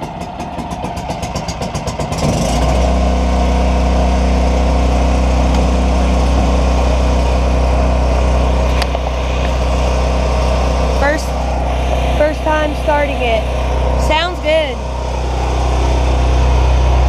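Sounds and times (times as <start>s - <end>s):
generator engine starting: 0.0s - 17.0s.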